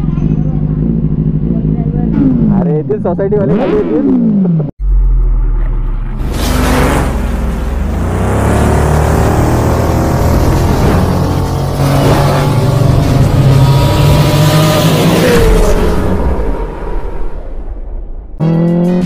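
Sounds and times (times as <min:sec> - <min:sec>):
synthesized revving engine whine: 0:03.6 - 0:19.0.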